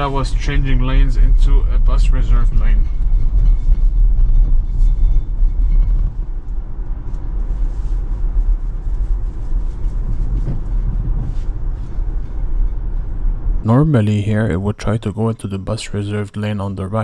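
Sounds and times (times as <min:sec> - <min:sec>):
road and tyre noise in car cabin: 0:00.0 - 0:17.0.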